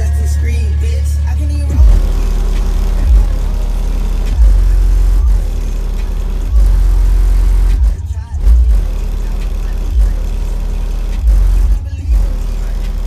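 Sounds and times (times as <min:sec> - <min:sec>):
subwoofer heavy bass notes: 0:00.0 - 0:13.0.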